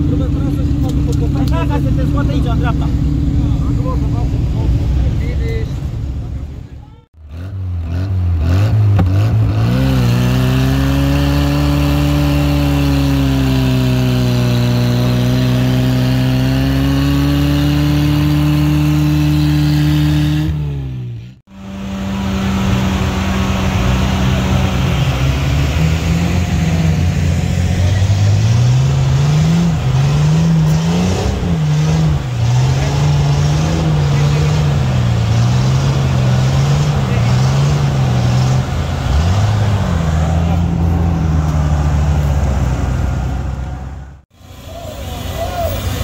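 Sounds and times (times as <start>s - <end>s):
engine at steady high revs: 0.0s - 44.5s
engine revving up and down: 7.2s - 46.0s.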